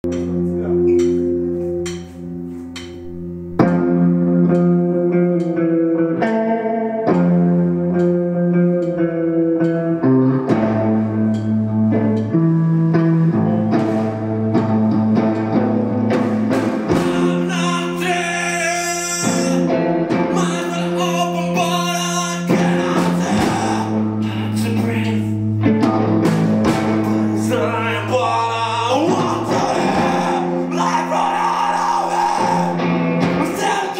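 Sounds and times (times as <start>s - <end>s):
drum kit: 0.0s - 5.6s, 9.6s - 28.2s, 28.8s - 33.9s
electric guitar: 0.0s - 33.9s.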